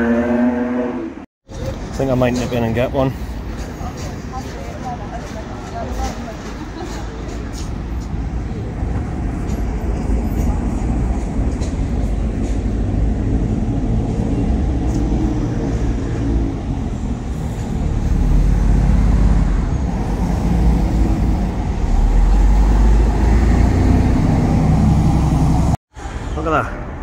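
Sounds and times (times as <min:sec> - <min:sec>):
rumble of passing vehicles: 0:00.0 - 0:27.0.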